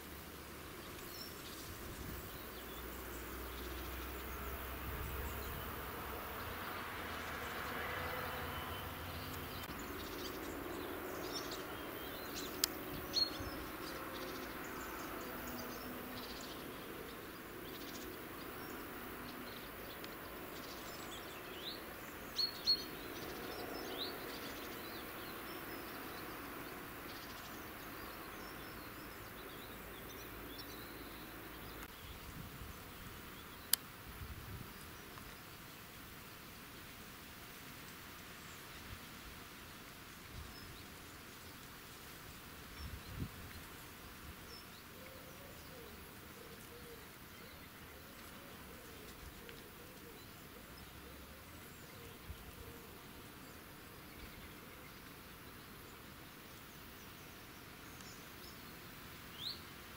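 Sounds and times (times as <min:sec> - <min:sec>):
faint steady background noise: 0:00.0 - 0:59.9.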